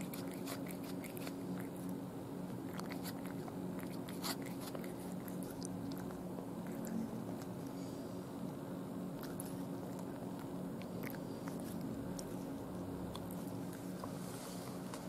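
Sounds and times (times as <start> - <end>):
cat chewing with wet clicks: 0.0 - 7.8, 9.1 - 13.9
low hum: 0.0 - 15.0.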